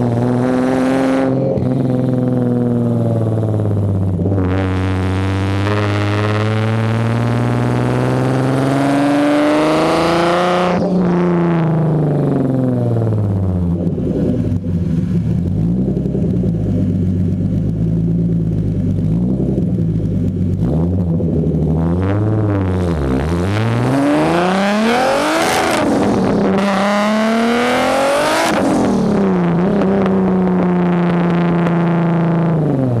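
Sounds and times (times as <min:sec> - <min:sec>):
car exhaust revving and idling: 0:00.0 - 0:33.0.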